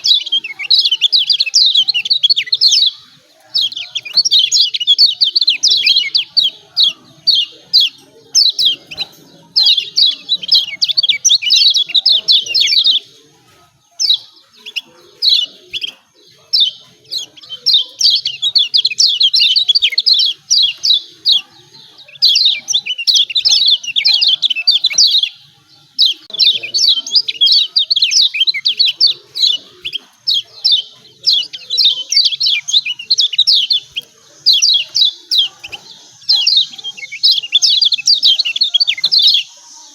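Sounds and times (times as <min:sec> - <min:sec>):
bird high chattering calls: 0:00.0 - 0:39.9.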